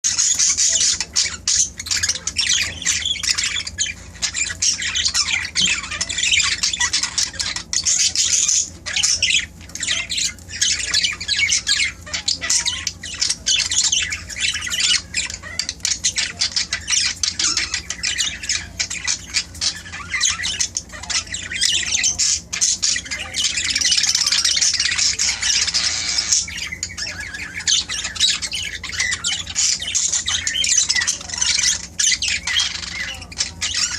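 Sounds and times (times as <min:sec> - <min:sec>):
budgerigars chattering and squawking: 0:00.0 - 0:33.9.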